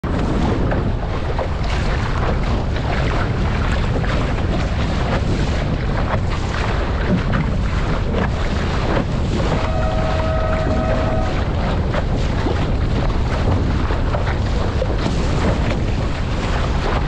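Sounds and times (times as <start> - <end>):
water rushing along boat hull: 0.0 - 17.0
wind buffeting microphone: 0.0 - 17.0.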